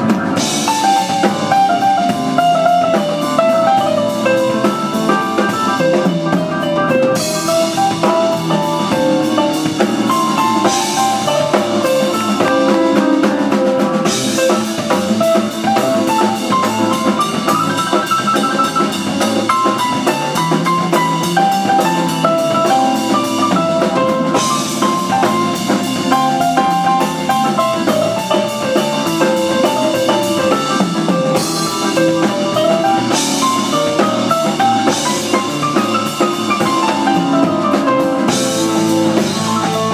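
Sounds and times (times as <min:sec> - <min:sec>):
blues-rock band playing: 0:00.0 - 0:39.9.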